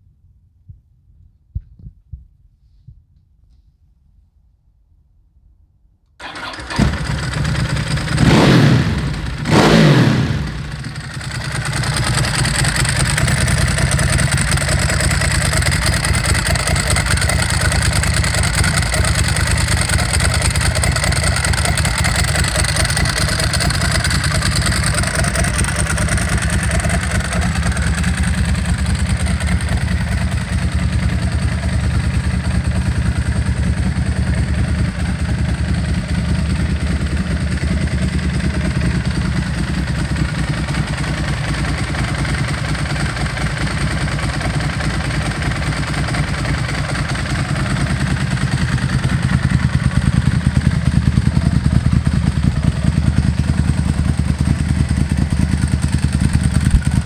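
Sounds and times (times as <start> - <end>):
motorcycle engine idling: 6.2 - 57.0
motorcycle engine revving: 6.2 - 57.0
motorcycle engine starting: 6.2 - 57.0.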